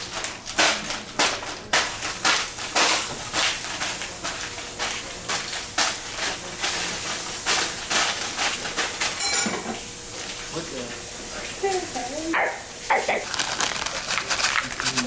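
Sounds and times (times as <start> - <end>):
food sizzling in a frying pan: 1.7 - 14.9.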